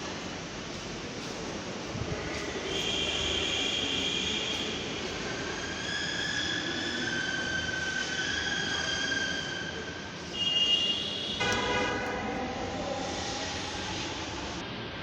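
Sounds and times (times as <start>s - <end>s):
metro train running: 0.0s - 15.0s.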